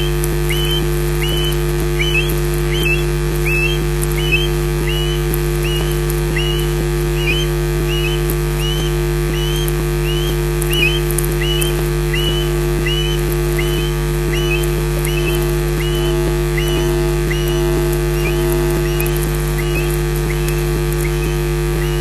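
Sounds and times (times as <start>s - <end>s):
electrical hum: 0.0s - 22.0s
osprey whistled calls: 0.0s - 22.0s.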